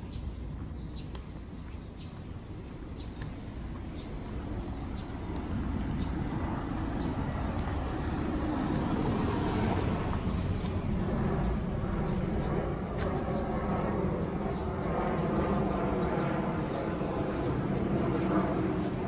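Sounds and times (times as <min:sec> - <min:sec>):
vehicle engine and tyre rumble: 0:00.0 - 0:15.9.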